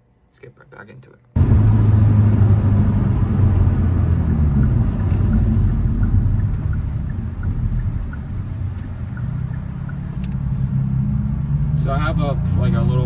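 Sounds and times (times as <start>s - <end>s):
car engine running: 1.4s - 13.0s.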